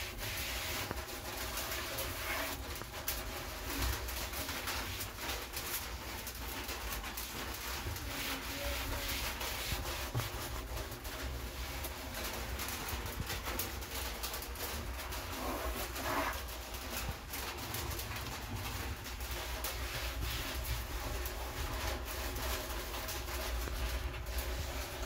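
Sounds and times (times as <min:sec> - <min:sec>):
cloth wiping countertop: 0:00.0 - 0:25.0.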